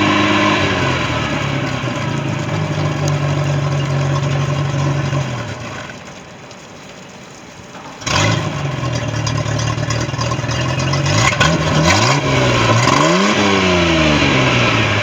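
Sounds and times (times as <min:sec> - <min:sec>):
boat engine revving: 0:00.0 - 0:06.4, 0:07.8 - 0:15.0
boat engine starting and idling: 0:00.0 - 0:15.0.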